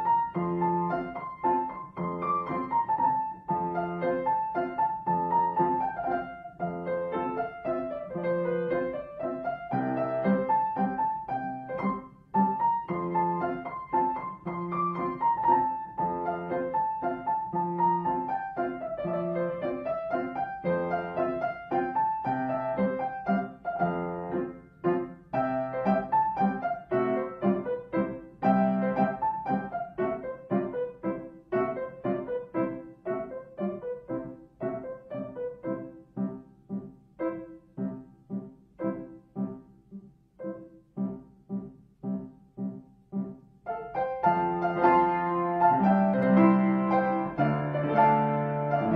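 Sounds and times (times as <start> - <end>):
piano background music: 0.0 - 48.9.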